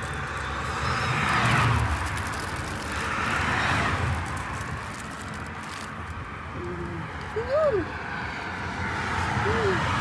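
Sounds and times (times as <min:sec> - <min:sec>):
vehicles driving past: 0:00.0 - 0:10.0.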